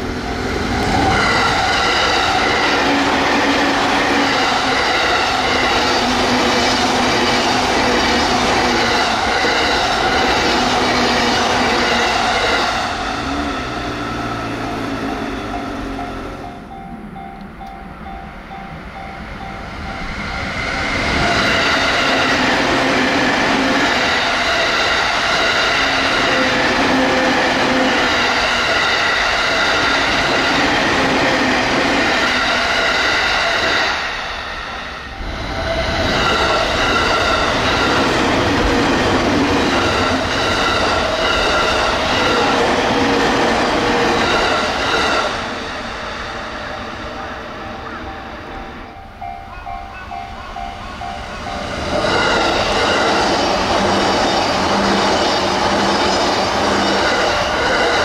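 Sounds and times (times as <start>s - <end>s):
electric trains passing: 0.0s - 58.0s
train whining tones: 0.0s - 58.0s.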